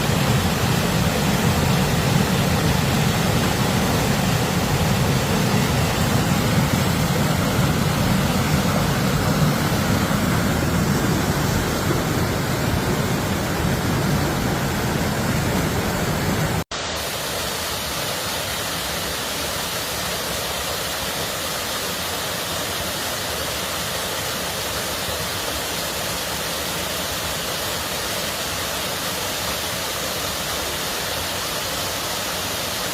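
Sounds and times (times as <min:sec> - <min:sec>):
thin hissy water rush: 0:00.0 - 0:32.9
water rushing: 0:00.0 - 0:32.9.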